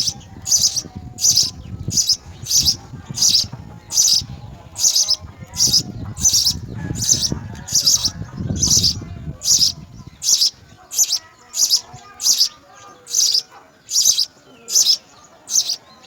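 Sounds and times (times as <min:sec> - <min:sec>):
sparrow chirping: 0:00.0 - 0:16.0.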